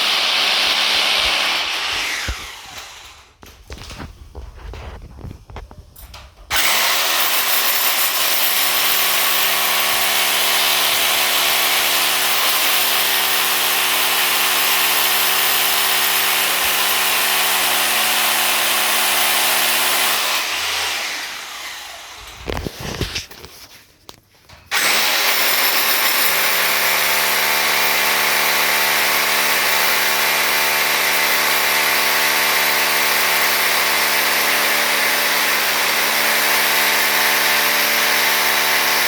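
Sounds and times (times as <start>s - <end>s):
hammer drill drilling into concrete: 0.0s - 3.4s, 6.5s - 23.3s, 24.7s - 39.0s.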